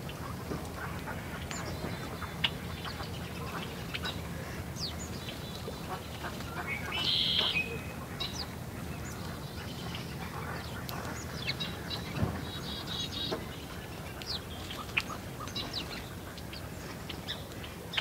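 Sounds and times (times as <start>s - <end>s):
sparrows chirping: 1.6s - 18.0s.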